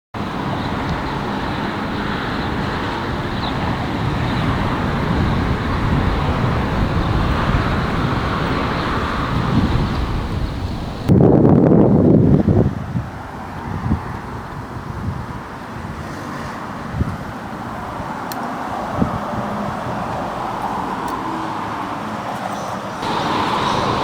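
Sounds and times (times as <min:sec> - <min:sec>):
road traffic noise: 0:00.1 - 0:24.0.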